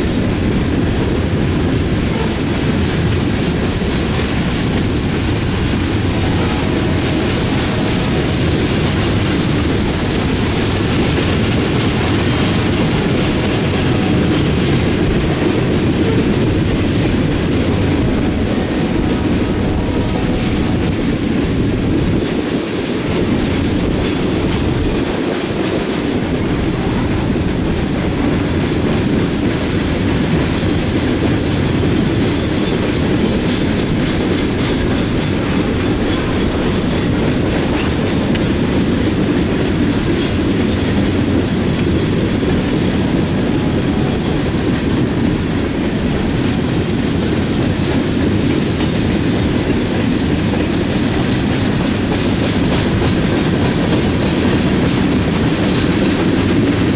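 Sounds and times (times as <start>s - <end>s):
freight train rumbling past: 0.0s - 56.9s
wheels clicking over rail joints: 0.0s - 56.9s.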